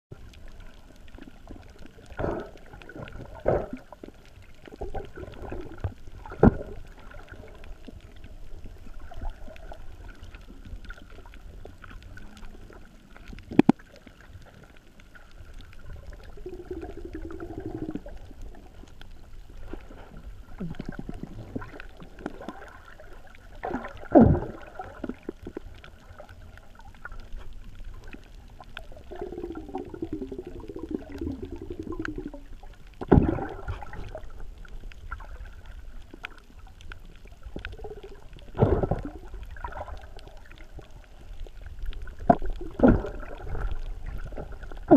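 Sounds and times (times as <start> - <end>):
muffled underwater movement: 0.1 - 44.9.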